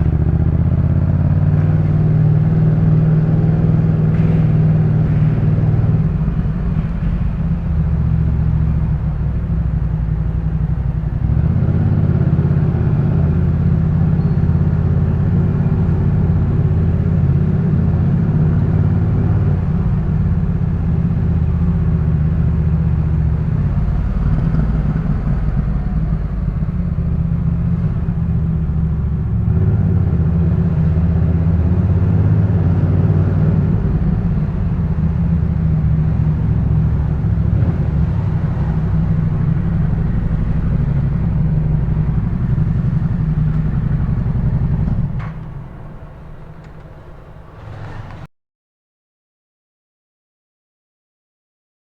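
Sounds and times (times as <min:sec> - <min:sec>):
motorcycle engine running: 0:00.0 - 0:48.2.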